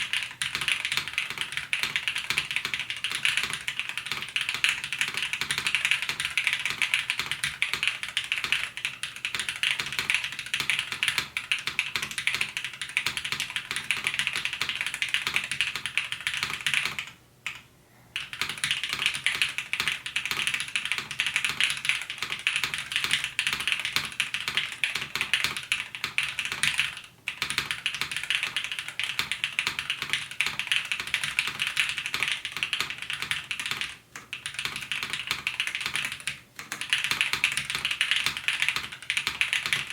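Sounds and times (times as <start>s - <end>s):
mechanical keyboard typing: 0.0s - 17.6s, 18.2s - 39.9s.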